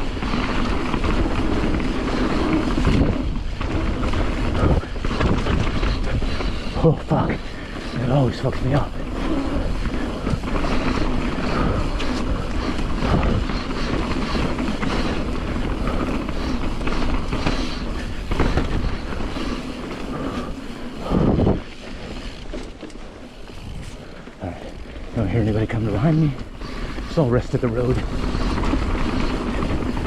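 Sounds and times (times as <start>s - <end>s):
wind buffeting microphone: 0.0s - 22.6s, 23.3s - 30.0s
bike rattles and knocks: 0.0s - 30.0s
bike tyre noise on dirt: 0.0s - 30.0s.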